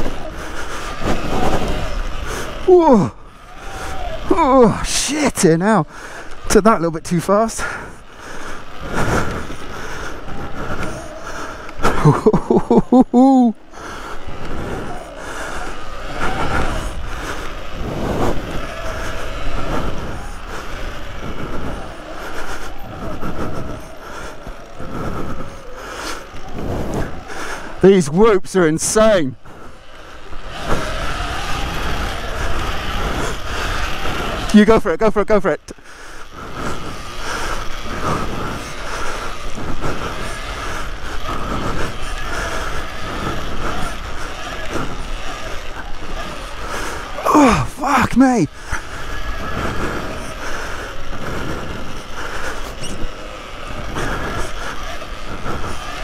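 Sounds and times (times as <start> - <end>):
electric motorbike motor whining: 0.0 - 56.0
tyres rumbling on dirt: 0.0 - 56.0.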